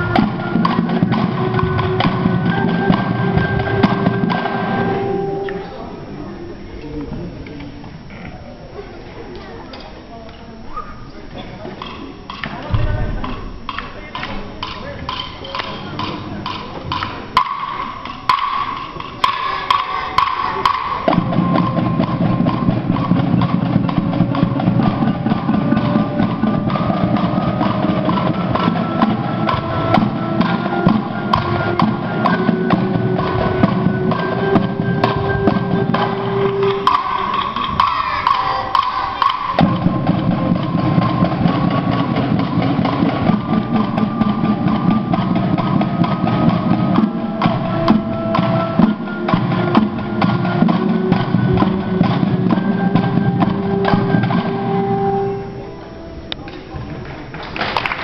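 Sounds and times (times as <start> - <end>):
mallet percussion ensemble: 0.0 - 6.6, 11.8 - 57.0.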